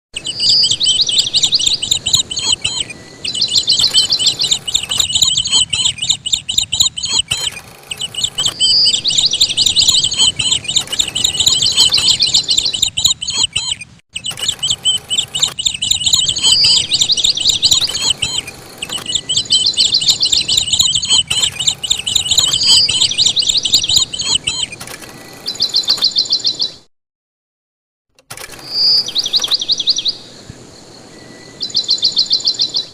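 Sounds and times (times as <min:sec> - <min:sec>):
songbird singing: 0:00.2 - 0:26.9, 0:28.3 - 0:32.9.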